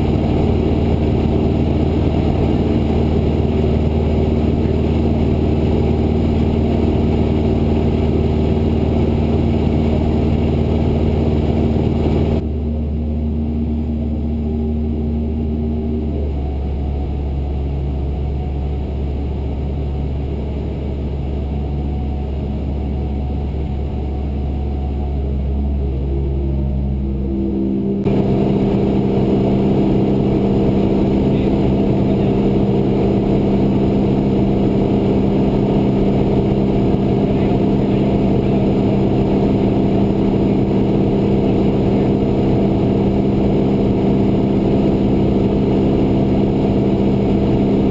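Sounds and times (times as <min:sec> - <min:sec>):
propeller plane engine droning: 0:00.0 - 0:47.9.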